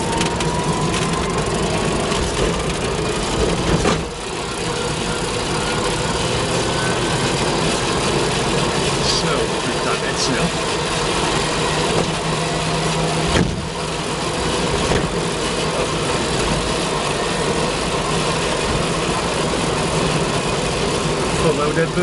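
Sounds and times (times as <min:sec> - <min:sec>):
vehicle cabin driving noise: 0:00.0 - 0:22.0.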